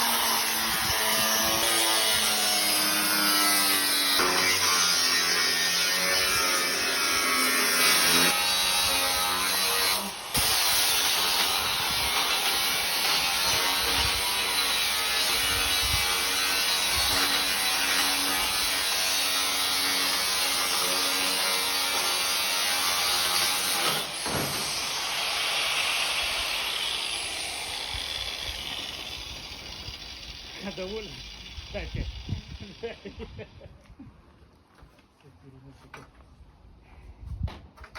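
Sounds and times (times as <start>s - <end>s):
power tool harsh sawing noise: 0.0s - 33.5s.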